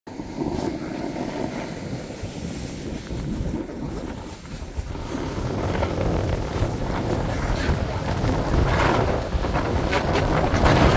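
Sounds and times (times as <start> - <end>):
wind buffeting microphone: 0.1 - 10.9.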